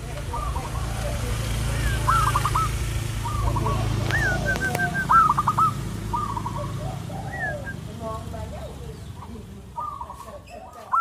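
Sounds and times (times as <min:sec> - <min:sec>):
dove cooing song: 0:00.0 - 0:11.0.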